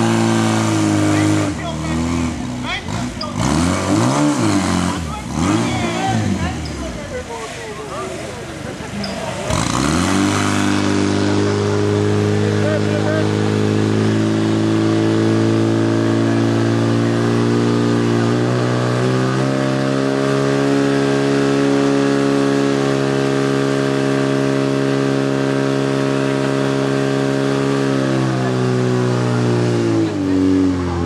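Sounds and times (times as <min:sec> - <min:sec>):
pump engine running hard: 0:00.0 - 0:02.2, 0:07.4 - 0:31.0.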